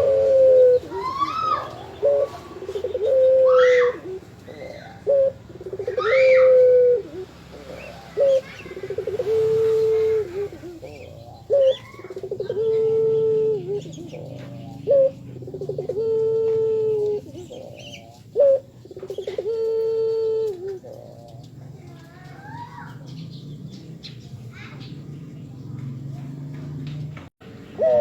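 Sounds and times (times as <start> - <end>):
dove cooing: 0.0 - 26.8, 27.6 - 28.0
small birds chirping faintly: 0.0 - 27.8.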